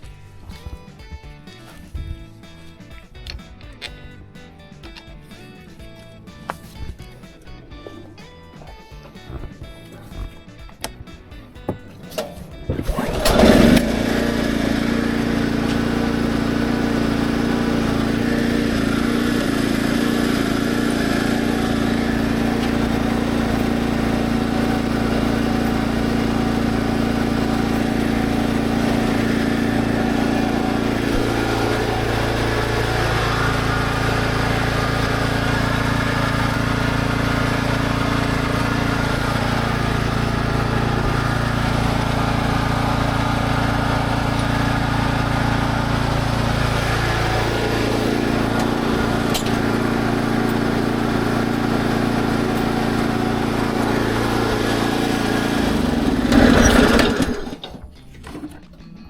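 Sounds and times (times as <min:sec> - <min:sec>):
small engine running: 0:00.0 - 0:57.8.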